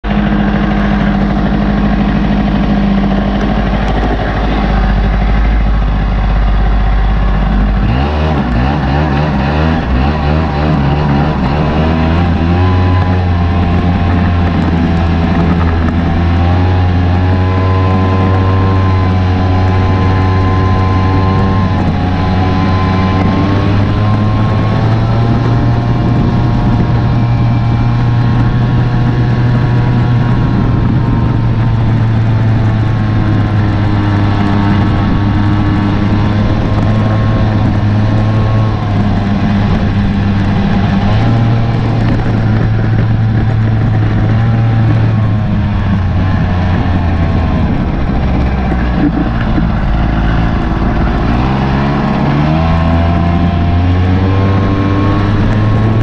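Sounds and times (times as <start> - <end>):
two-stroke quad engine revving: 0.0 - 56.0.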